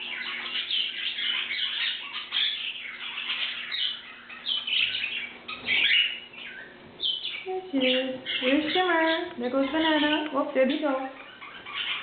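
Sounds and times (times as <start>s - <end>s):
pet birds chirping: 0.0s - 12.0s.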